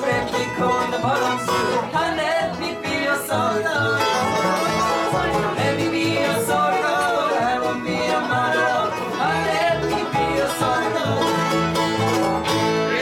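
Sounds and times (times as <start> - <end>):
acoustic guitar: 0.0 - 13.0
banjo: 0.0 - 13.0
fiddle: 0.0 - 13.0
mandolin: 0.0 - 13.0
upright bass: 0.0 - 13.0.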